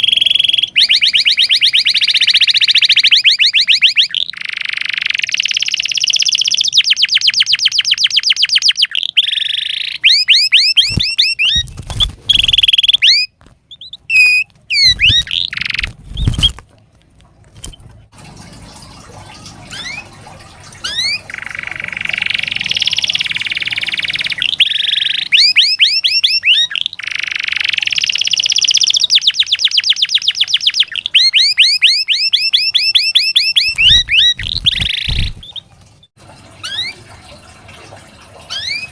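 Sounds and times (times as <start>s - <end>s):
canary singing trills: 0.0s - 16.6s, 19.7s - 20.1s, 20.8s - 35.7s, 38.5s - 38.9s.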